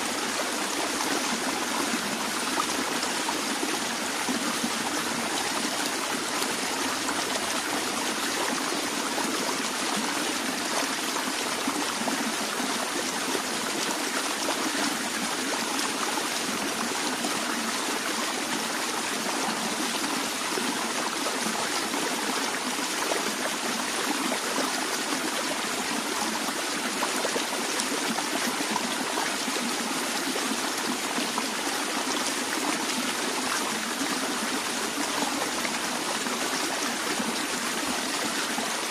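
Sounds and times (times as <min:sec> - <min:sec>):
stream water trickling: 0:00.0 - 0:38.9.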